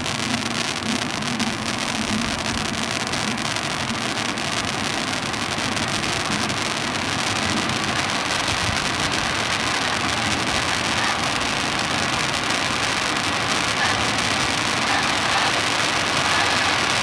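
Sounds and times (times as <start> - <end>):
fine crackling sparks: 0.0 - 17.0
firework fountain hissing: 0.0 - 17.0.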